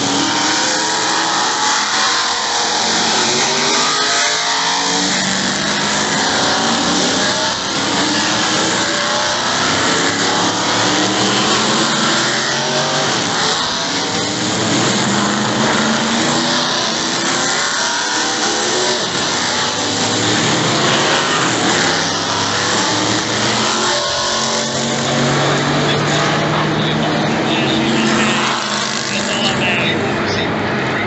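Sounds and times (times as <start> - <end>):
race truck engines passing: 0.0 - 31.0.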